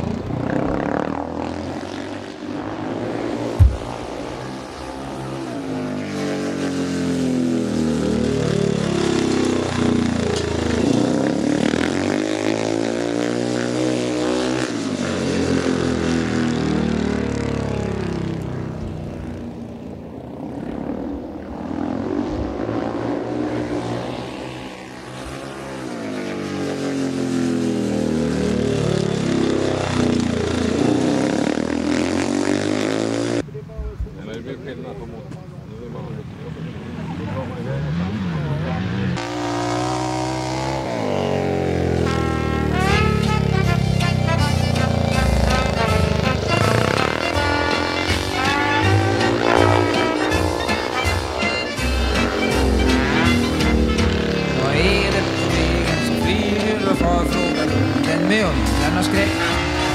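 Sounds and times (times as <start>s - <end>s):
motorcycle engine passing: 0.0s - 33.4s, 36.4s - 59.9s.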